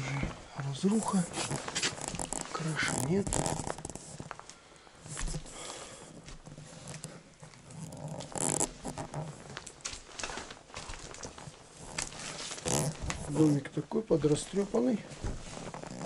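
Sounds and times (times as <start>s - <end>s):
footsteps on wooden floorboards: 0.0s - 16.0s.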